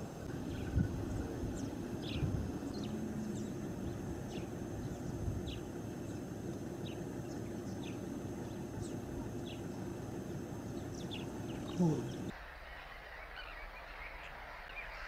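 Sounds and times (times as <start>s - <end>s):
low outdoor rumble: 0.0s - 15.0s
small birds chirping: 0.2s - 15.0s.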